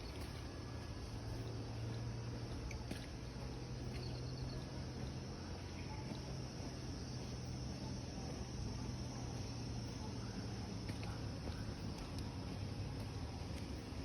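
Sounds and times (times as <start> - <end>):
insects chirring: 0.0 - 14.0
low steady hum: 0.0 - 14.0.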